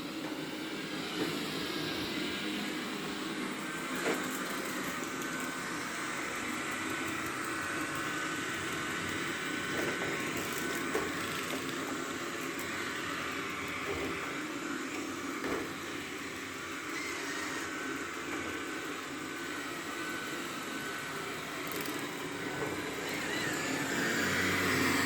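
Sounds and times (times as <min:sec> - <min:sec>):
robot vacuum suction fan whir: 0:00.0 - 0:25.0.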